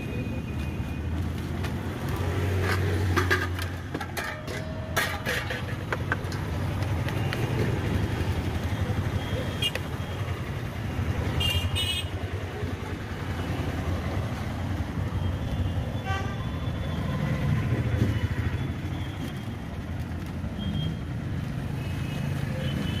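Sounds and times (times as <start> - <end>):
street traffic of motorcycles: 0.0 - 23.0.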